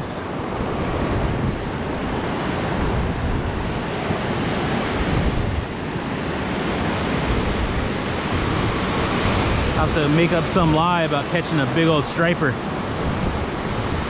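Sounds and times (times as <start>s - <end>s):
ocean surf breaking on beach: 0.0s - 14.0s
wind buffeting microphone: 0.0s - 14.0s.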